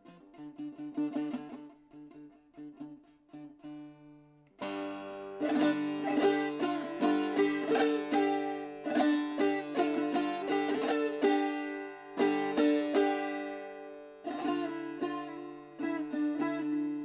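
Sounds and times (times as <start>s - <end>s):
plucked lute improvisation: 0.0s - 17.0s.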